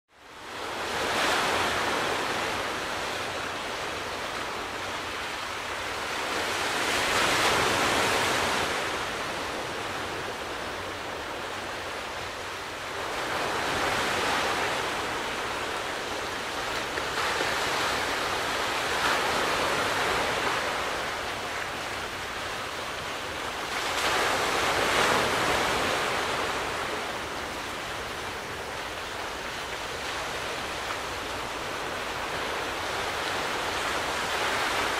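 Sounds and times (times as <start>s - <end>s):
sea waves breaking ashore: 0.2s - 34.9s.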